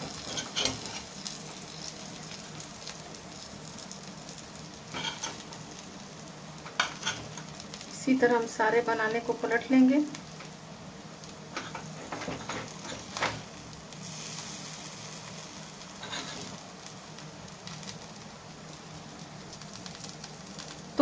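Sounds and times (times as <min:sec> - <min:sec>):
banana slices sizzling in oil: 0:00.0 - 0:21.0.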